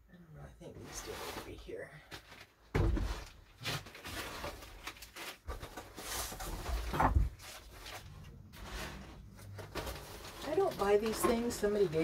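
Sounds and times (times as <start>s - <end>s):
packaging rustling: 1.0s - 12.0s.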